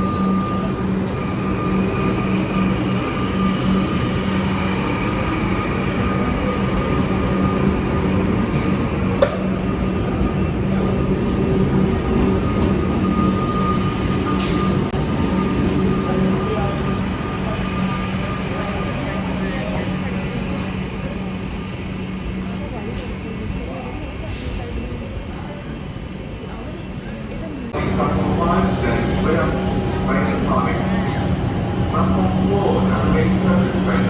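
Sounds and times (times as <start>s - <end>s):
electric train humming: 0.0s - 22.8s, 27.8s - 34.0s.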